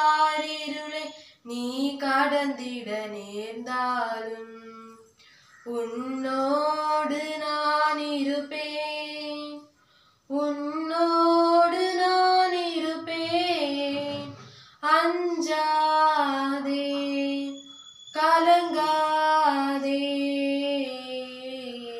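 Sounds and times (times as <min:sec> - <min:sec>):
girl singing a hymn: 0:00.0 - 0:09.7, 0:10.3 - 0:21.9.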